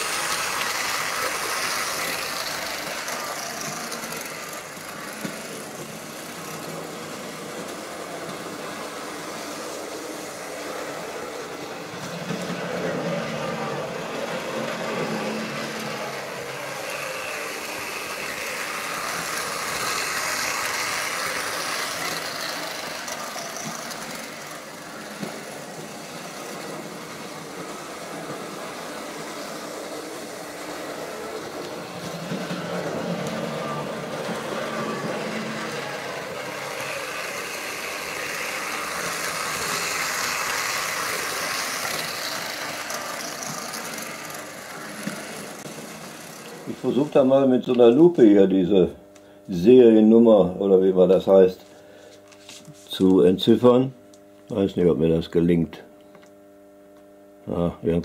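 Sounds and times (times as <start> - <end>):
wheels rumbling over rails: 0.0 - 47.2
model train motor whirring: 0.0 - 47.9.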